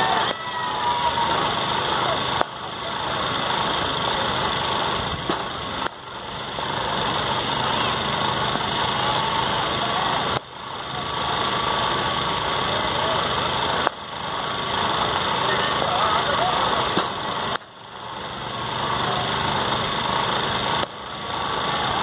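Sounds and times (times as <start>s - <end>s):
faint distant voices: 0.0s - 22.0s.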